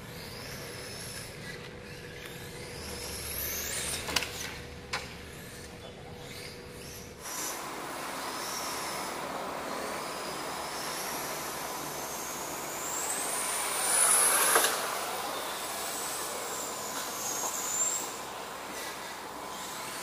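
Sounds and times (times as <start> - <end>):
rc car electric motor whine: 0.0 - 20.0.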